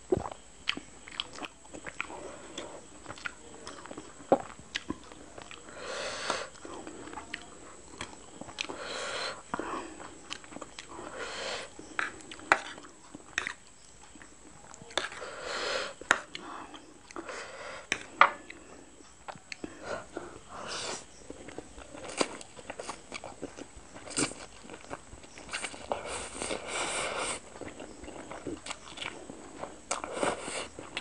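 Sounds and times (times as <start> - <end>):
person chewing noodles: 0.0 - 31.0.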